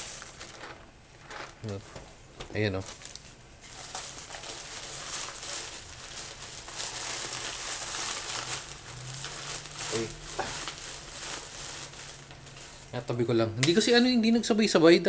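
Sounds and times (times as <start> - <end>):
plastic packaging crinkling: 0.0 - 14.7.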